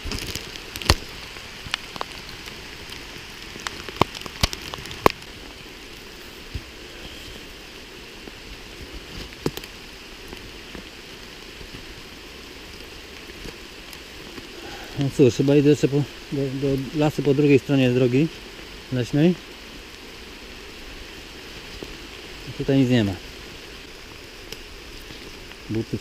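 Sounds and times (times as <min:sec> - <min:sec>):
rain falling in a forest: 0:00.0 - 0:26.0.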